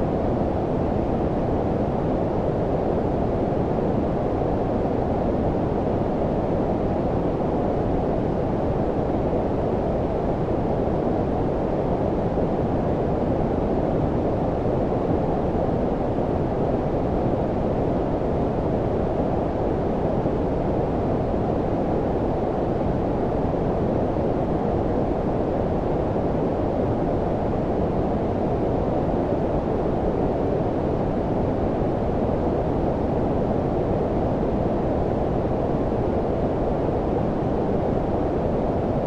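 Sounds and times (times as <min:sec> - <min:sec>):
low-frequency brown noise: 0:00.0 - 0:39.0.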